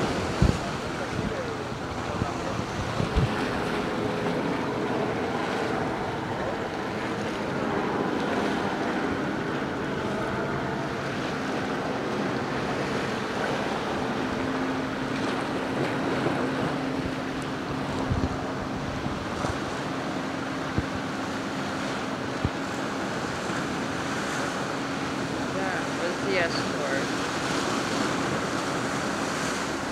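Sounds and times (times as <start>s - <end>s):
boat engine hum: 0.0s - 29.9s
water rushing and splashing: 0.0s - 29.9s
wind buffeting microphone: 0.0s - 29.9s.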